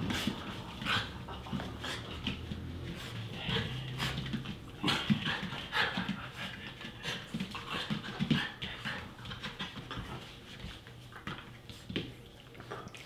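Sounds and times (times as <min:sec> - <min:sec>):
dogs panting: 0:00.0 - 0:11.4.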